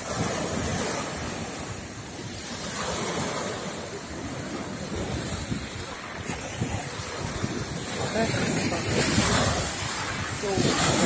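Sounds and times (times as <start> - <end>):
surf breaking on shore: 0.0 - 11.0
wind buffeting microphone: 0.0 - 11.0.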